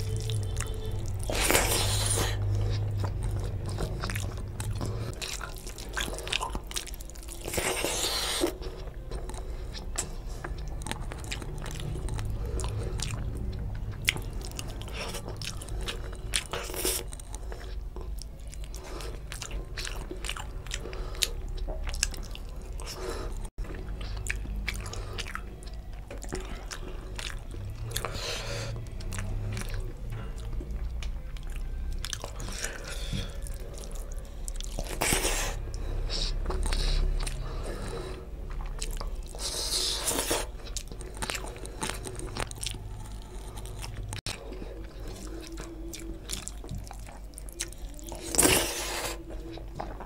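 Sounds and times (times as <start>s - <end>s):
chewing and wet mouth smacks: 0.0s - 50.0s.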